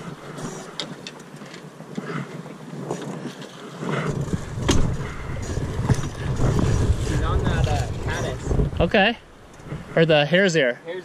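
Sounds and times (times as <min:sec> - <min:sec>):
oars swishing and splashing: 0:00.0 - 0:08.8.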